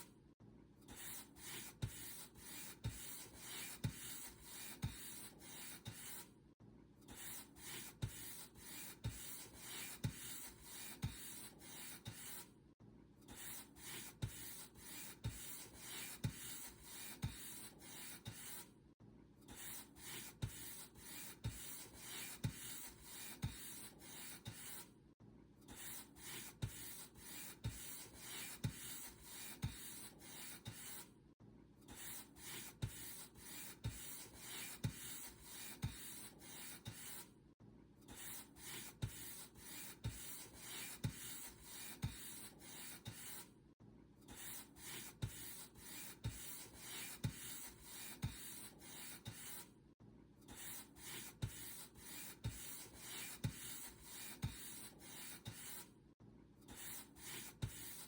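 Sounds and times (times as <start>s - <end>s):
paint brush strokes: 1.0s - 6.3s, 7.2s - 12.5s, 13.4s - 18.7s, 19.6s - 24.9s, 25.8s - 31.1s, 31.9s - 37.3s, 38.1s - 43.5s, 44.3s - 49.7s, 50.5s - 55.9s, 56.7s - 58.0s.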